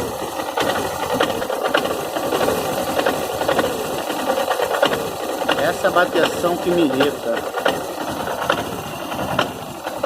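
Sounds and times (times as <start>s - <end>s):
metallic knocking rattle: 0.0s - 10.0s
motorcycle engine running: 0.0s - 10.0s.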